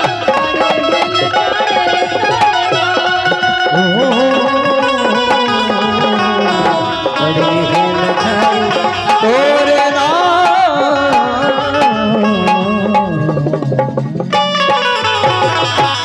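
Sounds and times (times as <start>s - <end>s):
drum beat: 0.0s - 16.0s
harmonium chords: 0.0s - 16.0s
sliding melody line: 0.0s - 16.0s.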